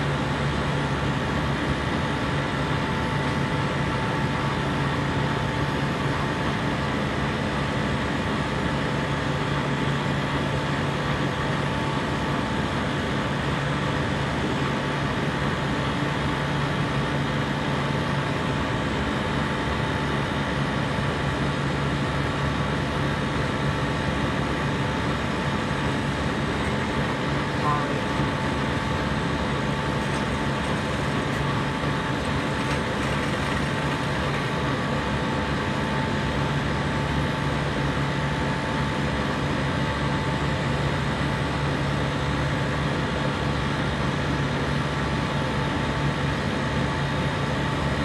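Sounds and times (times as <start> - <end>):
compressor humming: 0.0 - 44.9.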